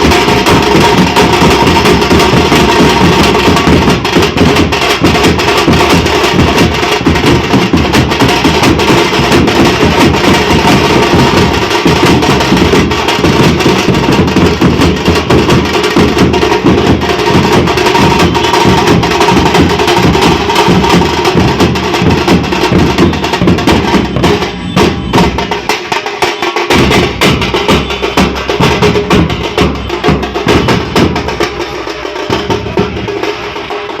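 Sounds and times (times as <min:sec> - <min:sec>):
drums played loud and fast: 0:00.0 - 0:34.0.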